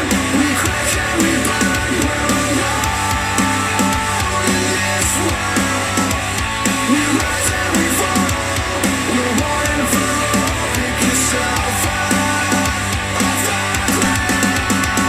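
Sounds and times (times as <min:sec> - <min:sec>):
rock music through speaker: 0:00.0 - 0:15.0.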